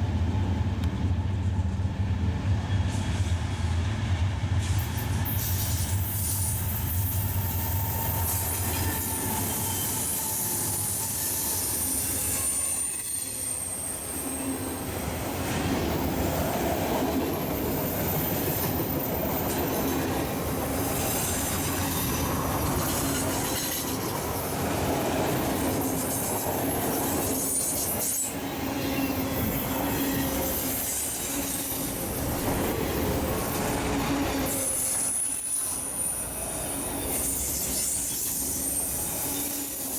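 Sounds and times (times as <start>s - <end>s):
railroad cars rolling past: 0.0s - 39.9s
wheels squealing on rails: 4.6s - 39.9s.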